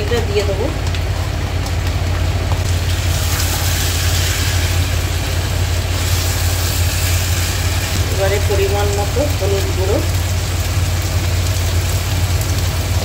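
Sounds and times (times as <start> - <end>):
low machine hum: 0.0 - 13.0
meat sizzling in a pan: 1.4 - 13.0.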